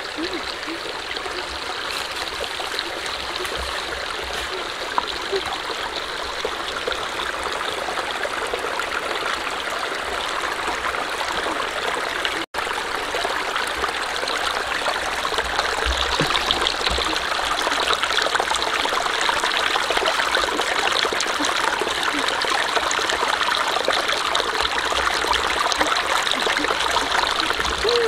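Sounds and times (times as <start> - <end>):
stream trickling over stones: 0.0 - 28.0.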